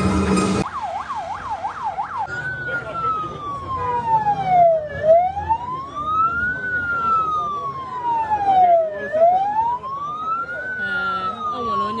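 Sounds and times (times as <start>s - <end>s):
vehicle siren wailing: 0.0s - 12.0s.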